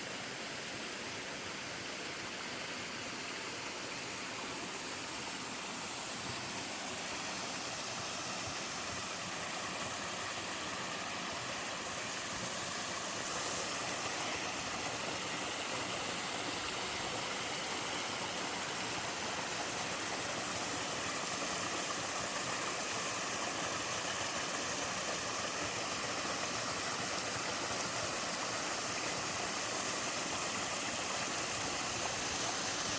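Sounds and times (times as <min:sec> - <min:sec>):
small waterfalls rushing: 0:00.0 - 0:32.9.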